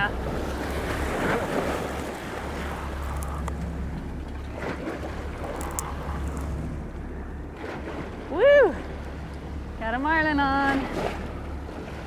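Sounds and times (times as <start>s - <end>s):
boat engines humming: 0.0s - 12.0s
water churning and splashing: 0.0s - 12.0s.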